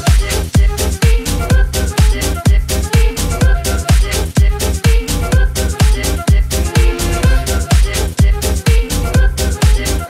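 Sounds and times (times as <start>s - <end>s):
kick drum: 0.0s - 9.8s
electro swing dance music: 0.0s - 10.0s.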